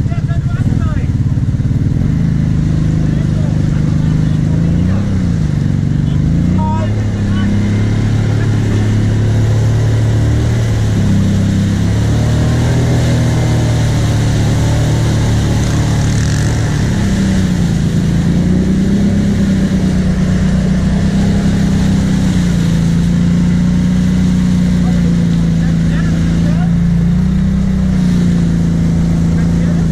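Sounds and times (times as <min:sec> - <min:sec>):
atv engine running: 0:00.0 - 0:29.9.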